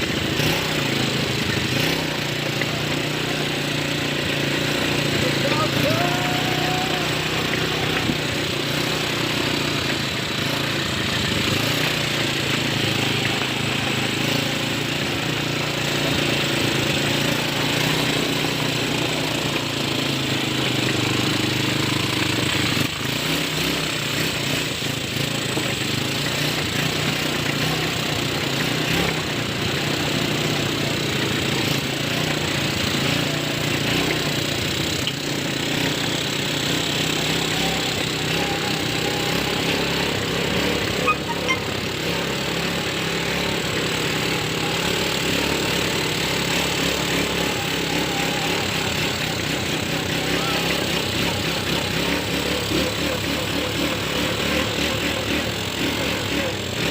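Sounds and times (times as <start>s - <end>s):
atv engine running: 0.0s - 56.9s.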